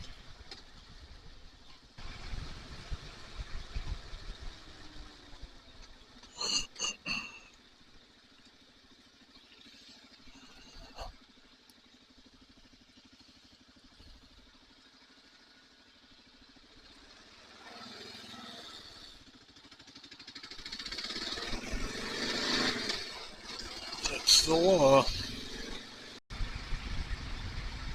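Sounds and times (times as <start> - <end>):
motorcycle engine accelerating: 0.0 - 6.3, 7.4 - 27.9.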